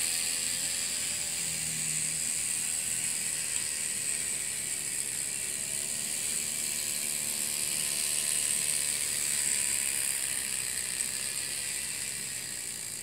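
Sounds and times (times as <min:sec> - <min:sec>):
steam engine mechanical whir: 0:00.0 - 0:13.0.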